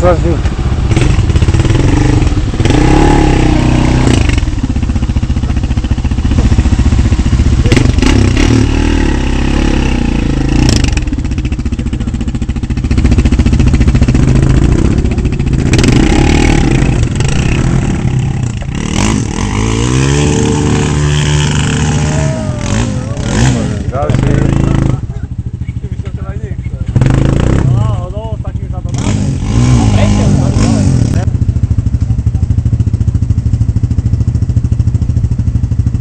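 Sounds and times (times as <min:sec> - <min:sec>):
quad bike engines revving: 0:00.0 - 0:36.0.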